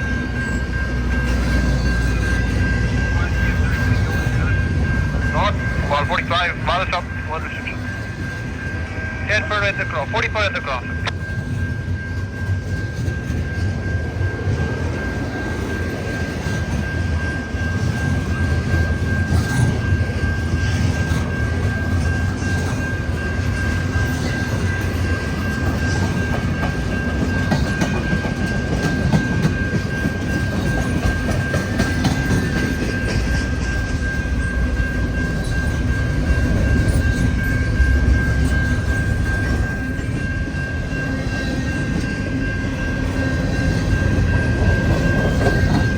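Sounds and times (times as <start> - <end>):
train rumbling past: 0.0 - 45.9.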